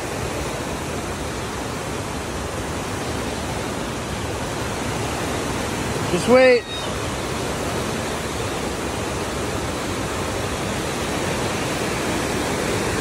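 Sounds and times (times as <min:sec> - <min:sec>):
waterfall and creek rushing: 0:00.0 - 0:13.0.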